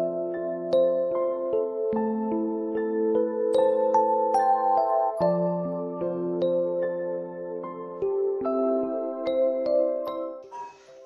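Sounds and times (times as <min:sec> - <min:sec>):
gentle instrumental melody: 0:00.0 - 0:11.0.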